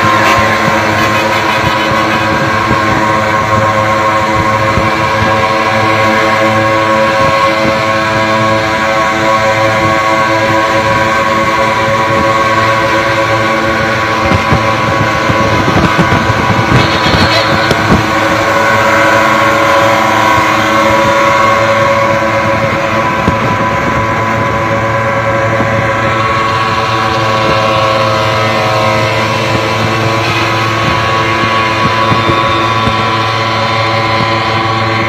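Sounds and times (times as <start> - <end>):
racing engines droning: 0.0 - 35.0
wind buffeting microphone: 0.0 - 35.0.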